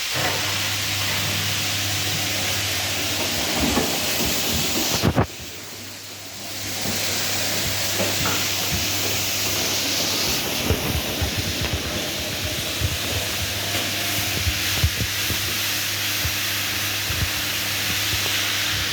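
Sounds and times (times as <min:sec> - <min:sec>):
washing machine spinning: 0:00.0 - 0:18.9.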